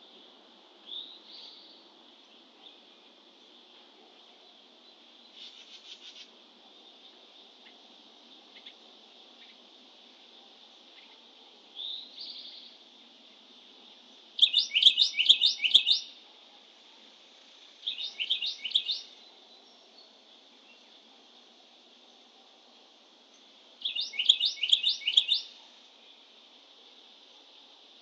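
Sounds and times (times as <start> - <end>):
songbird singing: 0.0 - 28.0.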